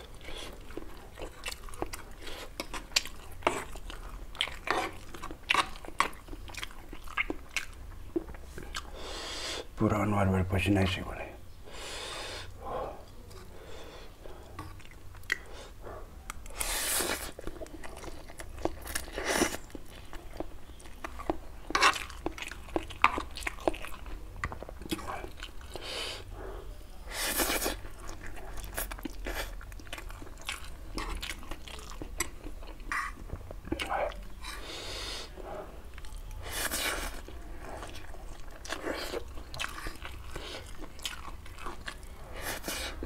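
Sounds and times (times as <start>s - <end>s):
person chewing noodles: 0.0s - 9.8s, 11.7s - 43.0s.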